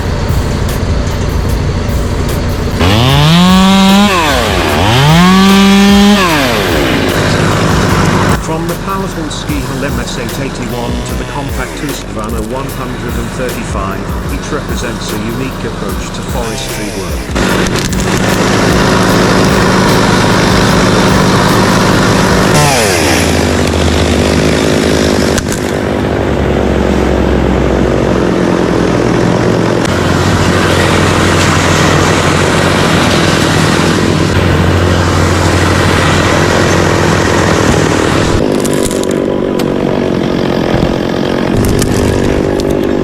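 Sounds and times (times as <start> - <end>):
chainsaw engines running hard: 0.0 - 43.0.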